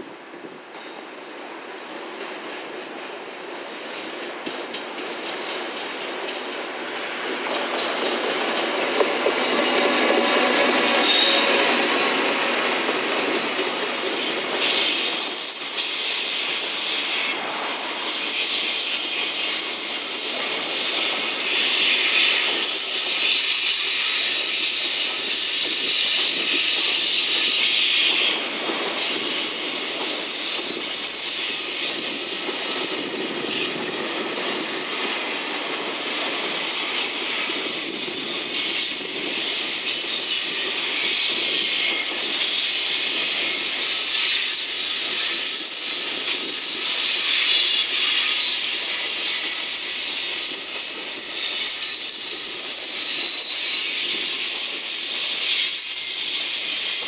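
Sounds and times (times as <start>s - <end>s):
freight train wheels on rail: 0.0s - 57.0s
high wheel squealing: 6.9s - 57.0s.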